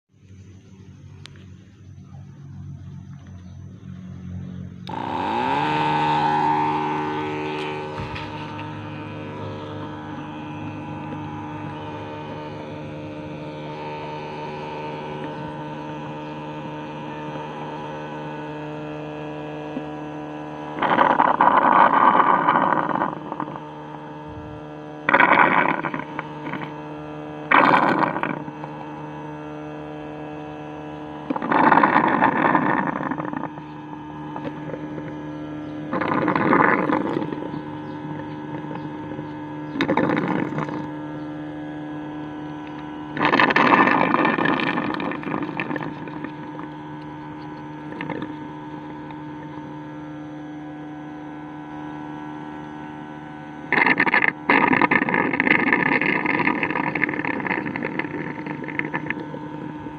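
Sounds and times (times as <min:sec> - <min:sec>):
machine electric hum: 0:00.1 - 0:59.9.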